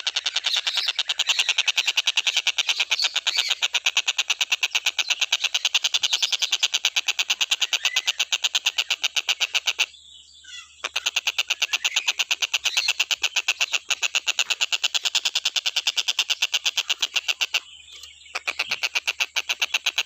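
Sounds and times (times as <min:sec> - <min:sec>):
bird rattling clicking call: 0:00.0 - 0:09.9, 0:10.9 - 0:20.0.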